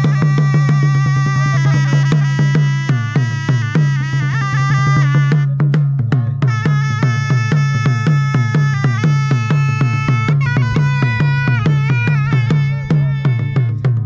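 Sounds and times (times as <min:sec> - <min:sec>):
barrel drums beaten with sticks: 0:00.0 - 0:14.0
shawm melody: 0:00.0 - 0:14.0.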